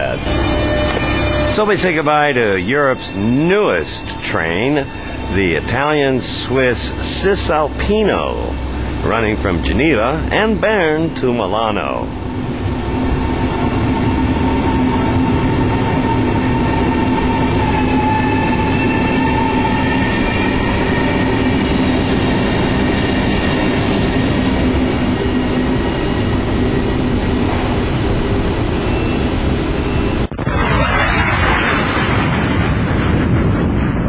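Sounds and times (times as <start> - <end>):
electric whining tones: 0.0 - 34.0
train rumbling: 0.0 - 34.0.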